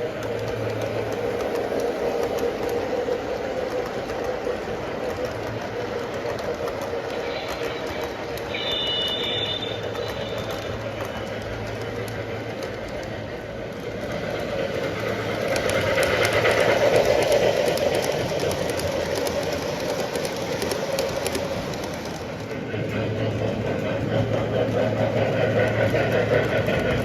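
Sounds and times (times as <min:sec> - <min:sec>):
model train wheels clicking: 0:00.0 - 0:27.0
rolling hum of train: 0:00.0 - 0:27.0.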